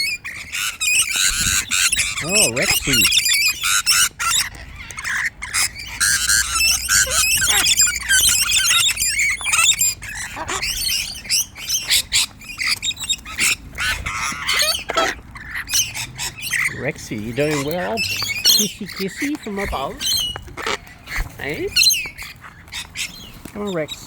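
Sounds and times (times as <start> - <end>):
cockatoos squawking: 0.0 - 24.0.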